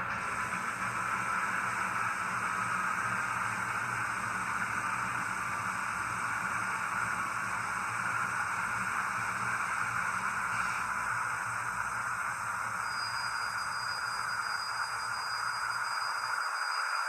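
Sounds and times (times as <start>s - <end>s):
diesel locomotive engine hum: 0.0s - 16.7s.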